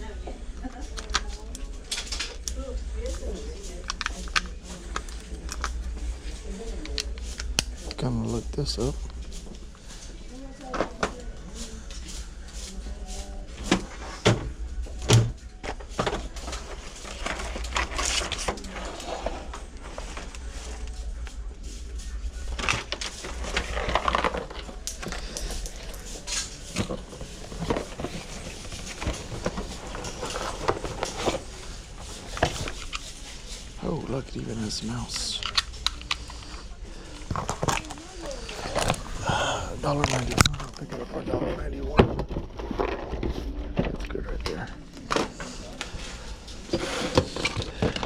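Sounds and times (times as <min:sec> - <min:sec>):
low store hum: 0:00.0 - 0:48.0.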